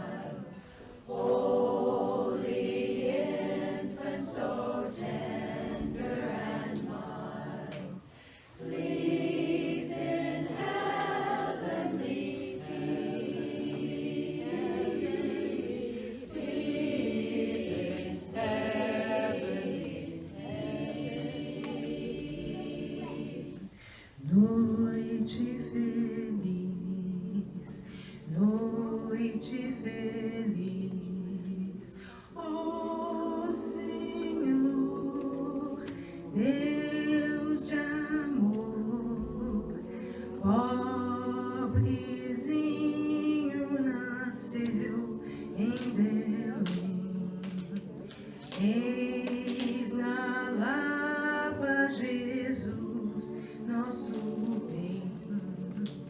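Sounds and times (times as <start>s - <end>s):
women's chorus singing a cappella: 0.0s - 56.0s.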